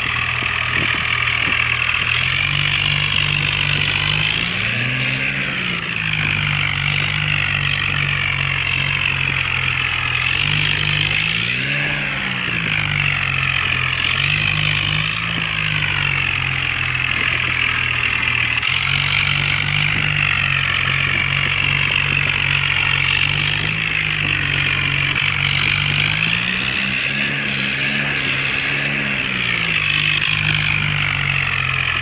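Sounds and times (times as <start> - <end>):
toy tractor motor whine: 0.0 - 32.0.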